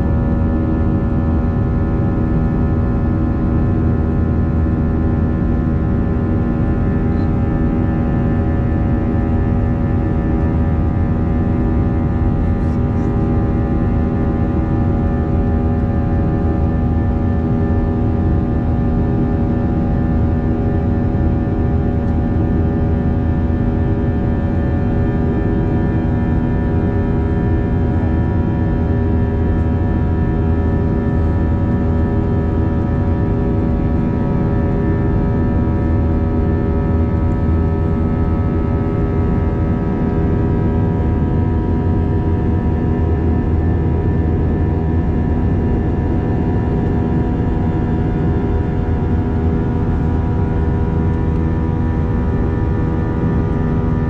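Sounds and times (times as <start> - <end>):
jet engine cabin noise: 0.0 - 54.0.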